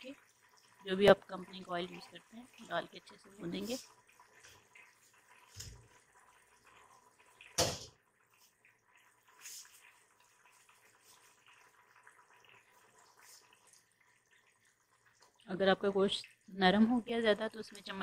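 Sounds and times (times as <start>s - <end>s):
curry bubbling and spitting: 0.0s - 18.0s.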